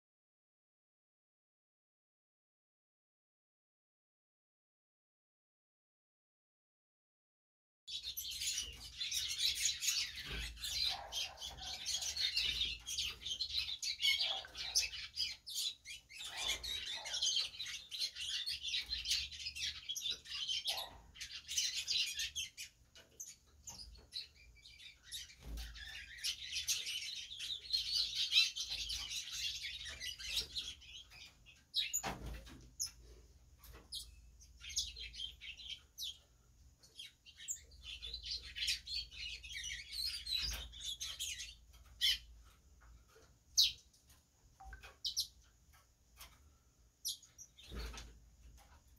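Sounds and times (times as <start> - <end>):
finches chirping and twittering: 7.9 - 48.9.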